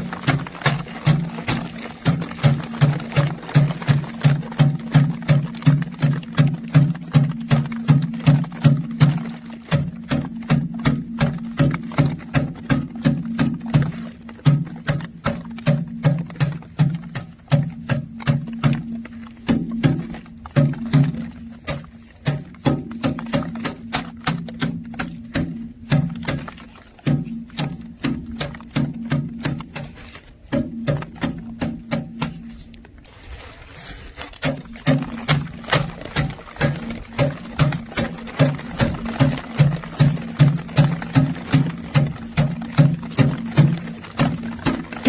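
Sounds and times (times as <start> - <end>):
rapid knocking of threshing: 0.0 - 45.0.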